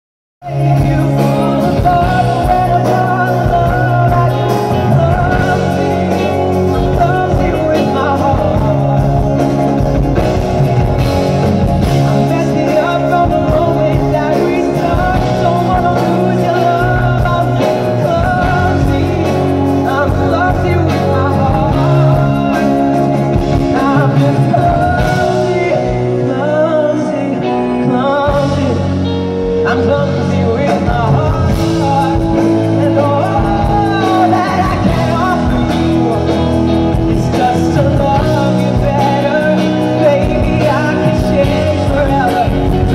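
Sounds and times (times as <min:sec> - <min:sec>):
live pop-rock band playing: 0:00.4 - 0:42.9
man singing: 0:00.4 - 0:42.9.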